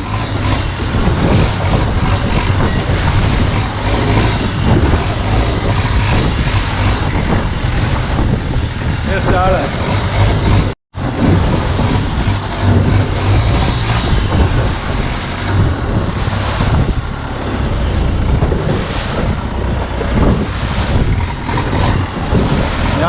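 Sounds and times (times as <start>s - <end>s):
boat engine running: 0.0s - 23.0s
waves splashing against hull: 0.0s - 23.0s
wind buffeting microphone: 0.0s - 23.0s.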